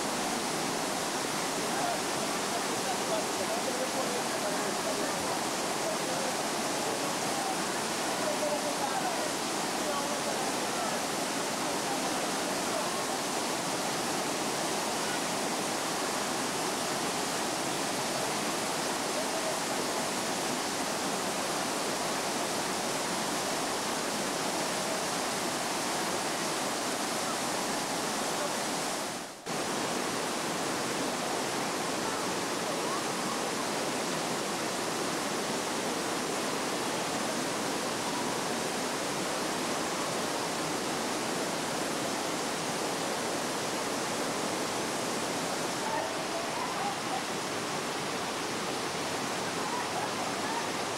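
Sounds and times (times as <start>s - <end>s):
water cascading down waterfall: 0.0s - 50.9s.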